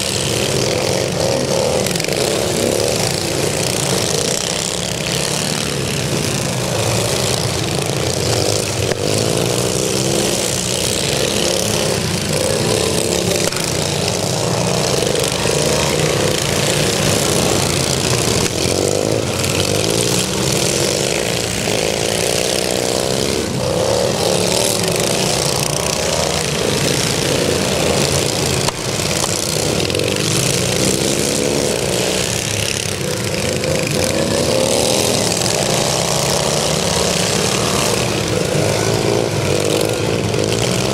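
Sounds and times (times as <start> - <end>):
small engines racing by: 0.0 - 40.9.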